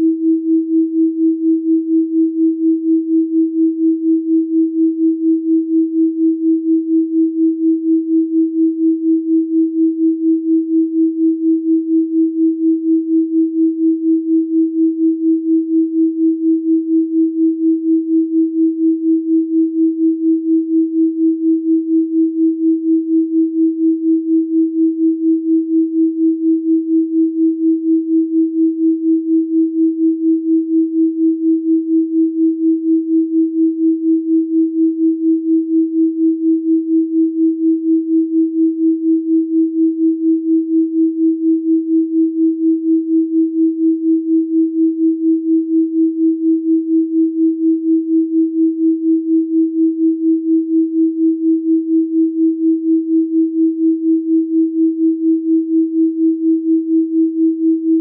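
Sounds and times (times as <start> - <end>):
pulsing sine tone: 0.0 - 58.0.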